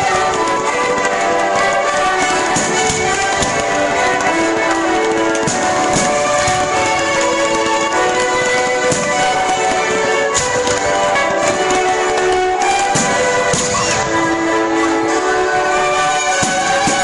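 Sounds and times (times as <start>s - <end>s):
instrumental music: 0.0s - 17.0s
sharp cracks: 0.0s - 17.0s.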